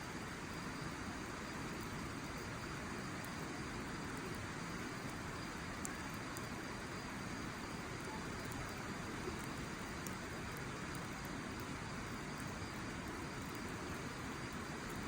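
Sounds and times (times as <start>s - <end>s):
fire crackles: 0.0s - 15.0s.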